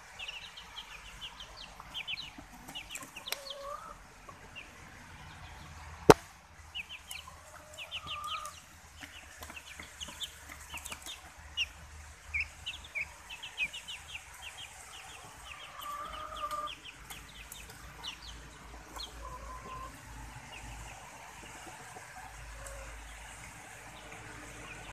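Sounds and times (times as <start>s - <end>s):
chicks chirping: 0.0s - 5.8s, 6.7s - 24.9s.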